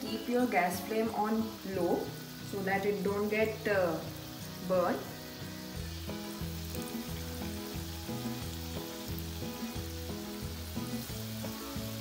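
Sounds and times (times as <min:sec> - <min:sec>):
background music with stepping melody: 0:00.0 - 0:12.0
dough deep-frying in oil: 0:00.0 - 0:12.0.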